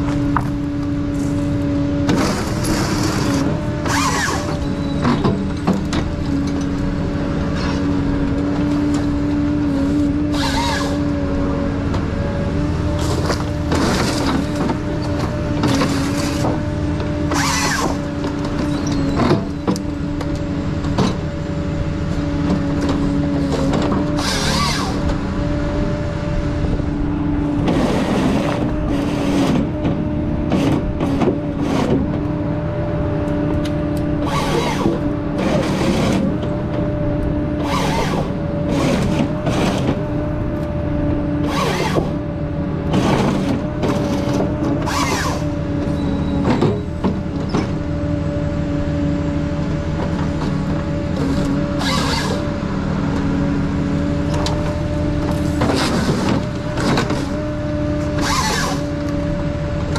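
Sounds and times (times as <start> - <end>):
harvester engine and hydraulics drone: 0.0 - 59.9.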